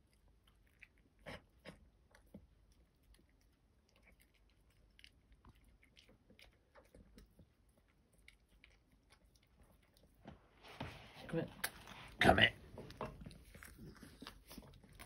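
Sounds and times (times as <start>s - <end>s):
dog chewing food: 0.0s - 15.0s.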